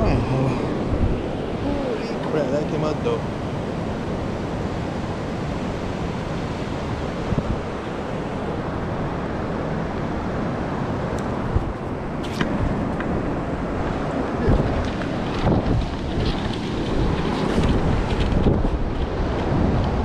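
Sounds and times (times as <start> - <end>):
surf on beach: 0.0 - 20.0
wind blowing across microphone: 0.0 - 20.0.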